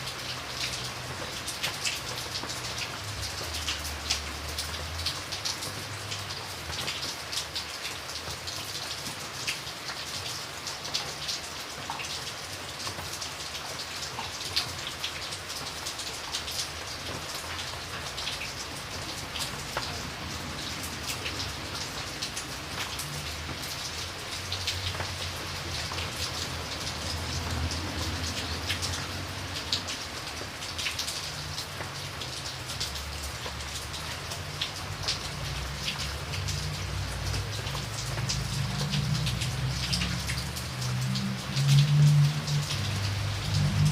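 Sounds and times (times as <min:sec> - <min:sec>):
raindrops ticking: 0:00.0 - 0:43.9
steady rain falling: 0:00.0 - 0:43.9.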